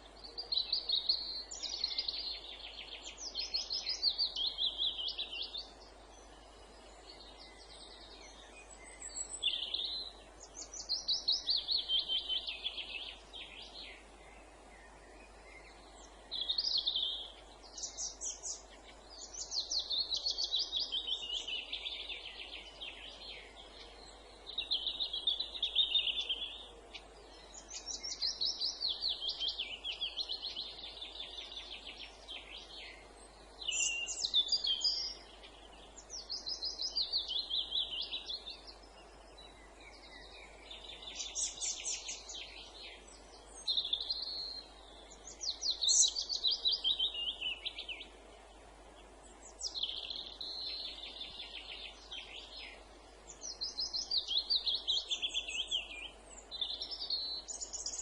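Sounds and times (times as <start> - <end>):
faint background hiss: 0.0 - 58.0
songbird singing: 0.0 - 58.0.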